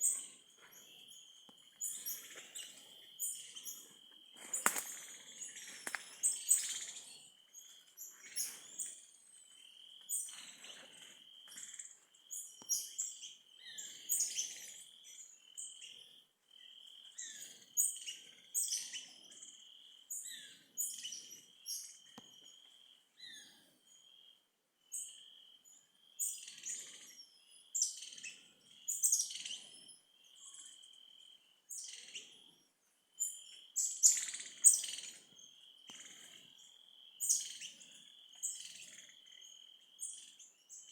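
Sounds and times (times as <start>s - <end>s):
birds chirping and trilling: 0.0s - 24.3s, 24.9s - 40.9s.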